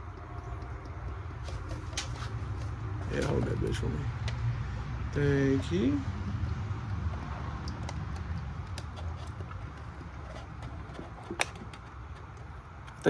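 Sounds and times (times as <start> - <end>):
bottles and funnel clicking: 0.0 - 5.0, 6.7 - 13.0.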